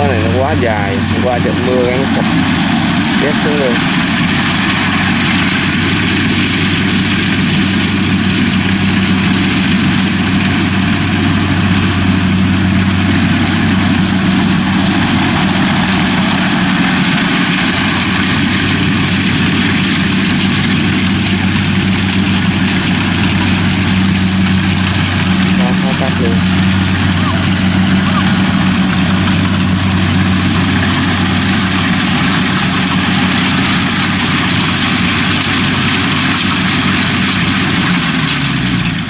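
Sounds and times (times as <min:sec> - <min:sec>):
diesel engine drone: 0:00.0 - 0:39.0.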